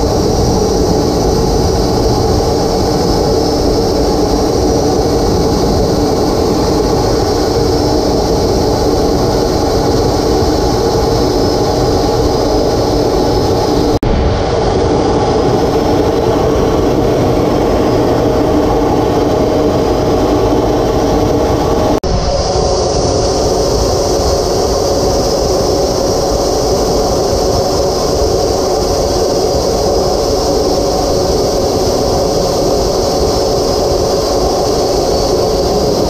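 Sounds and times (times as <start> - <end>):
jet engine airflow rush: 0.0 - 36.0
turbine whine: 0.0 - 36.0.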